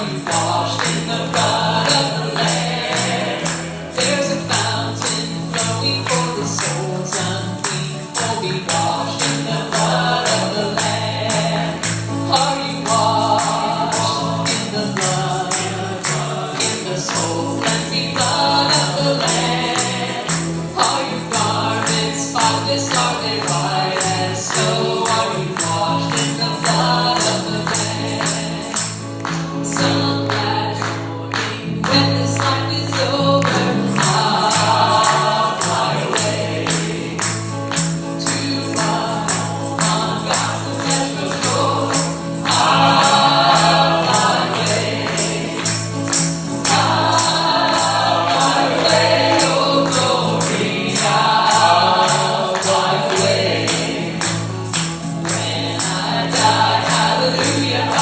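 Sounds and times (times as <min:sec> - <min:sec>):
gospel music: 0:00.0 - 0:58.0.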